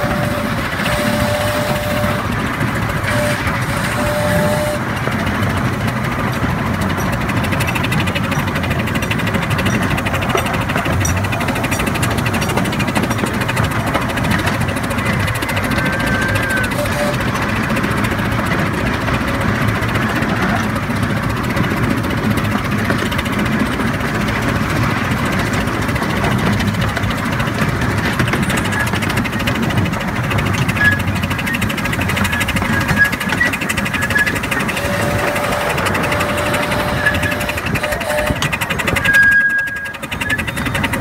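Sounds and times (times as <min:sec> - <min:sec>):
miniature train rumble and clatter: 0:00.0 - 0:41.0.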